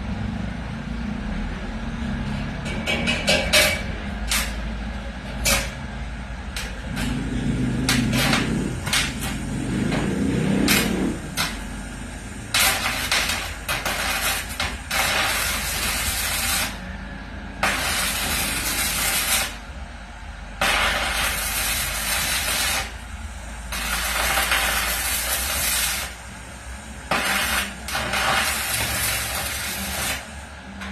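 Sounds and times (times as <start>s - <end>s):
welding arc crackling and hissing: 3.1s - 30.9s.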